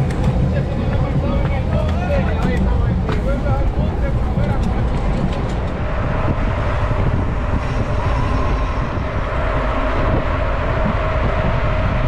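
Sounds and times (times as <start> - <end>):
bicycle tyre and road noise: 0.0 - 12.0
wind buffeting microphone: 0.0 - 12.0.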